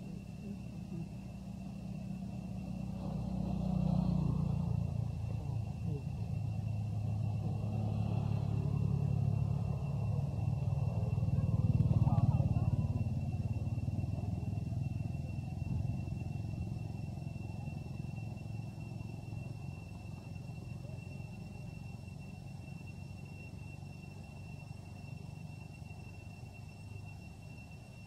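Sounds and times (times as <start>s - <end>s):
steady high-pitched whine: 0.0s - 28.0s
vehicle engine running: 0.0s - 28.0s.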